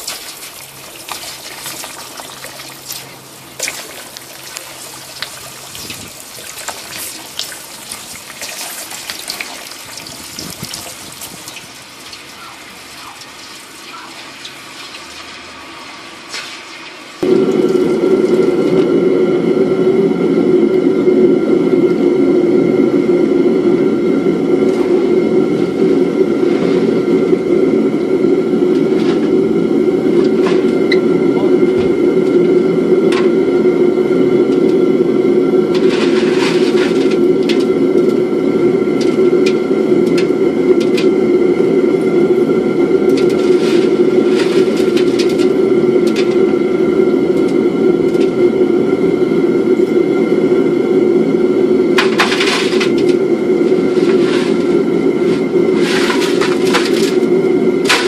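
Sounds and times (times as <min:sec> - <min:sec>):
steady low rumble: 0:00.0 - 0:16.3, 0:17.1 - 0:58.0
furnace burner roaring: 0:00.0 - 0:58.0.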